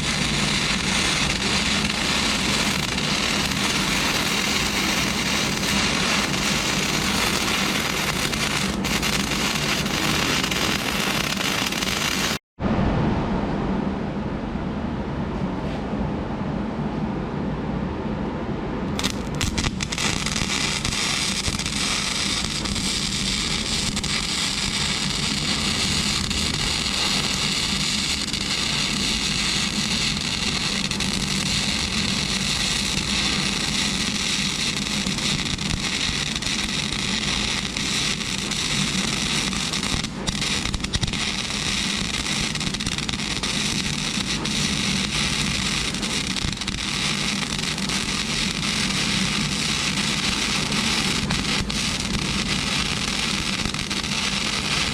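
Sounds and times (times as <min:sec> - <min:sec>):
arc welding crackle: 0:00.0 - 0:12.4, 0:19.0 - 0:54.9.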